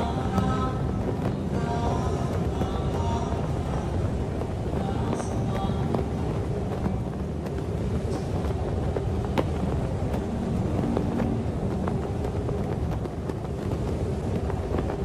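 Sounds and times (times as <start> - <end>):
snowstorm wind blowing: 0.0 - 15.0.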